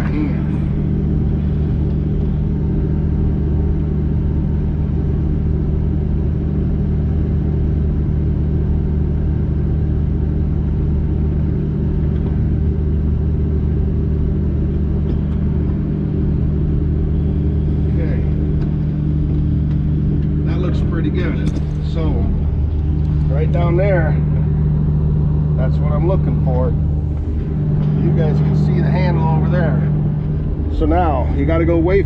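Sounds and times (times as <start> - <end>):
diesel engine running steadily: 0.0 - 32.0.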